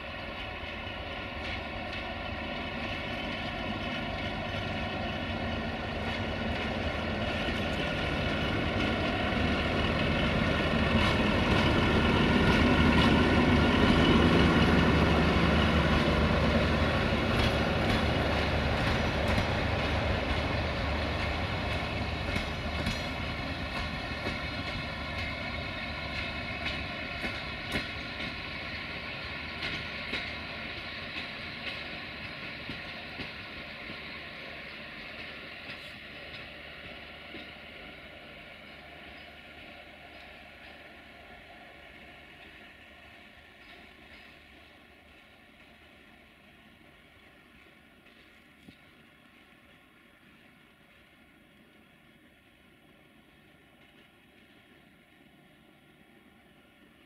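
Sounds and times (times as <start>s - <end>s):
diesel locomotive passing: 0.0s - 57.0s.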